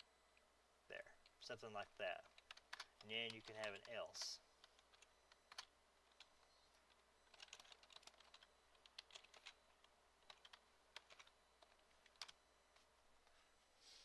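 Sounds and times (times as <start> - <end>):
keyboard typing: 2.0 - 13.4.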